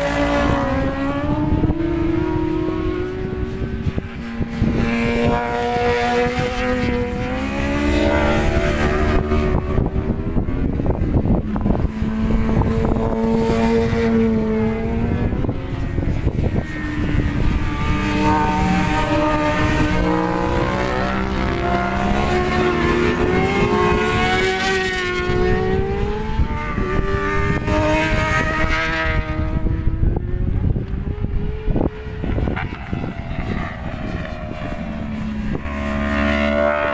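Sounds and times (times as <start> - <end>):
racing motorcycle engines passing: 0.0 - 36.9
wind rumble on microphone: 0.0 - 36.9.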